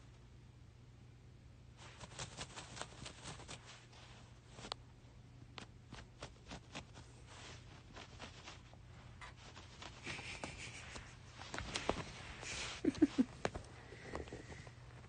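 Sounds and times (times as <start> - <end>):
light scratching and clicking: 1.8 - 4.8, 5.6 - 15.0.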